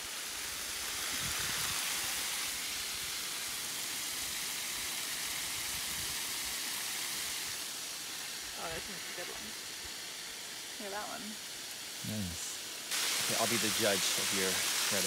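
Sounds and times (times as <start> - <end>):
water spraying hiss: 0.0 - 15.0.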